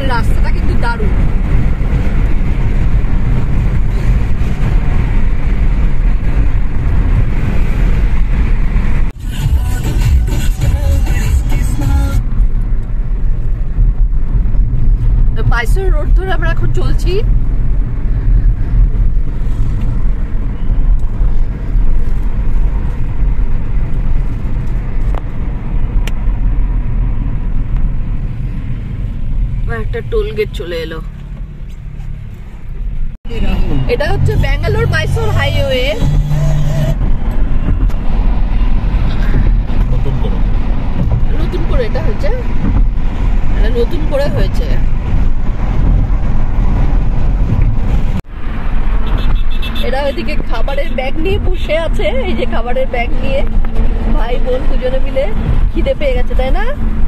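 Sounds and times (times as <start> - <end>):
car engine hum: 0.0 - 57.0
road and tyre noise: 0.0 - 57.0.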